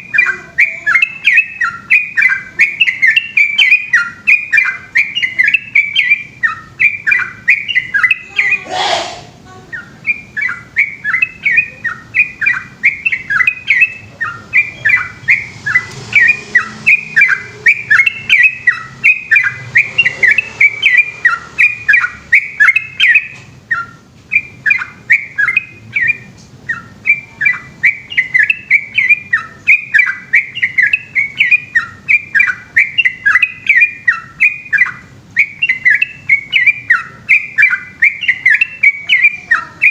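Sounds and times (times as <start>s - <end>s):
bird singing rapid chirping phrases: 0.0s - 39.9s.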